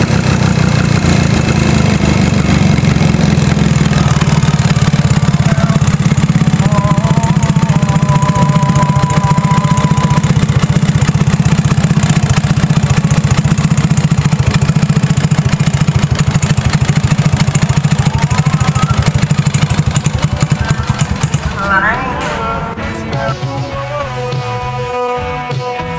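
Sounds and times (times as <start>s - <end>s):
two-stroke scooter engine idling: 0.0s - 24.4s.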